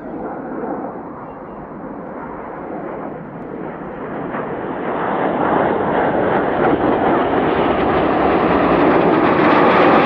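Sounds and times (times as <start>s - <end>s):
jets roaring past: 0.0s - 10.0s.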